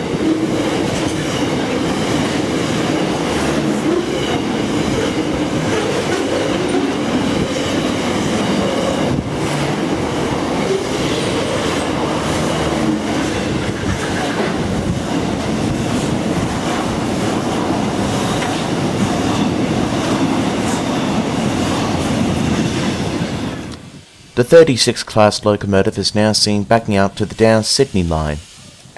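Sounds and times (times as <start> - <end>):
freight train wheels rumbling: 0.0 - 28.9.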